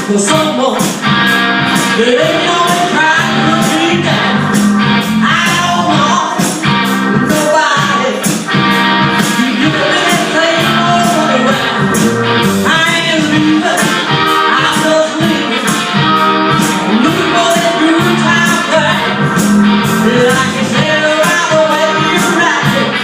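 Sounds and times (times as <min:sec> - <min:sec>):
person singing: 0:00.0 - 0:01.0, 0:01.8 - 0:23.0
band music: 0:00.0 - 0:23.0
steady drum beat: 0:00.0 - 0:23.0.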